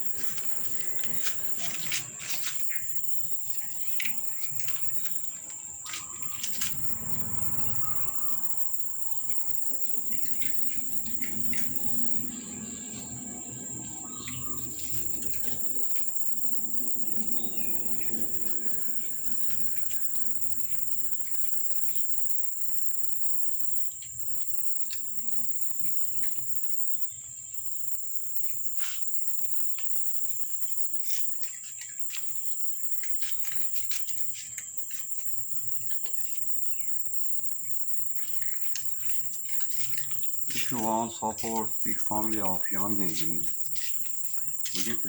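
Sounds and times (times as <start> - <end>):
insects trilling: 0.0 - 45.0.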